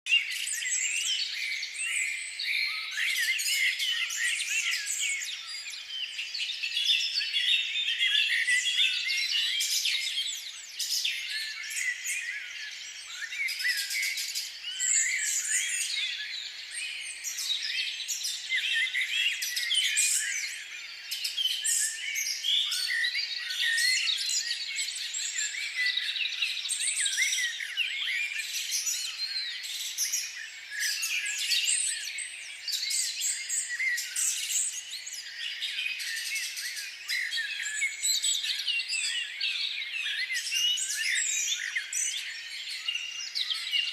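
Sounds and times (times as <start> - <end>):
flock of small birds chirping: 0.0 - 43.9.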